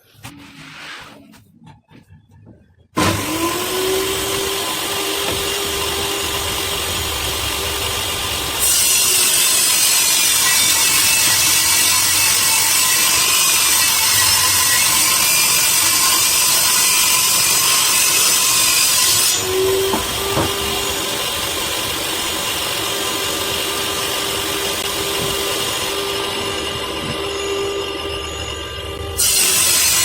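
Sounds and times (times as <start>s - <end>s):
power tool working wood: 3.0s - 30.0s.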